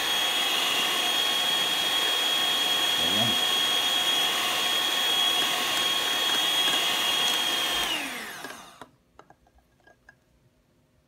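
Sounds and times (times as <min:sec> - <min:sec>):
electric hand mixer whine: 0:00.0 - 0:09.0.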